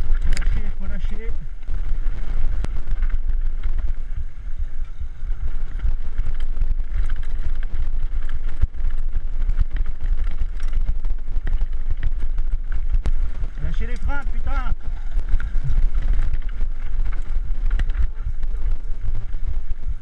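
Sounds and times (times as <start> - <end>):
mountain bike rattling on trail: 0.0 - 20.0
wind buffeting microphone: 0.0 - 20.0.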